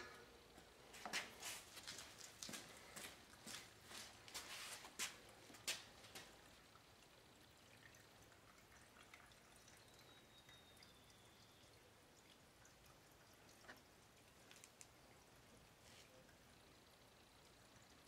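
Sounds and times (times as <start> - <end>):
fuel trickling: 0.0 - 18.0.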